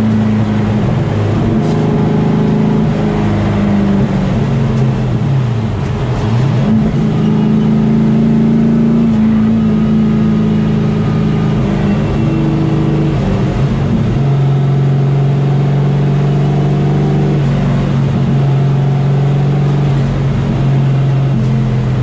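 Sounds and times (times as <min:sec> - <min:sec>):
race car engine running hard: 0:00.0 - 0:22.0.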